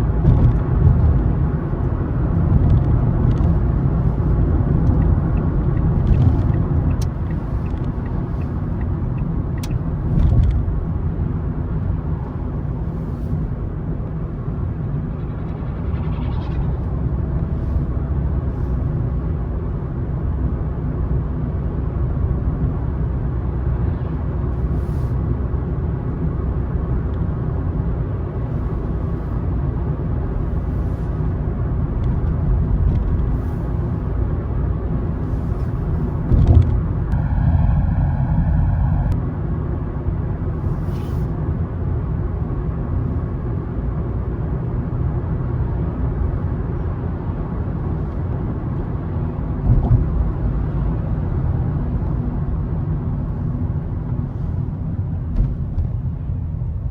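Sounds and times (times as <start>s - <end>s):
car engine: 0.0s - 56.9s
tyres rumbling on road: 0.0s - 56.9s.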